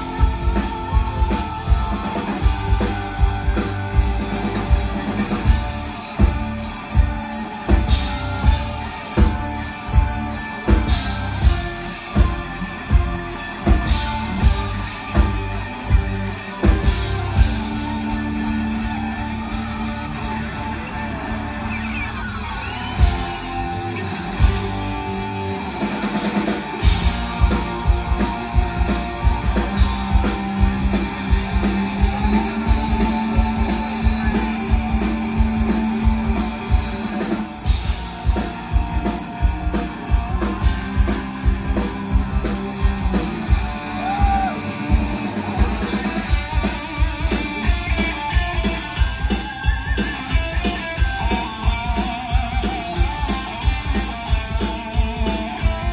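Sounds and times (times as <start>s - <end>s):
drum beat: 0.0s - 18.0s, 24.2s - 55.9s
electric guitars and bass: 0.0s - 55.9s.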